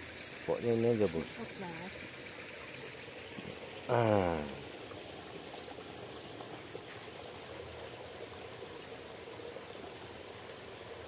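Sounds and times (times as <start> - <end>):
stream water trickling: 0.0 - 11.0.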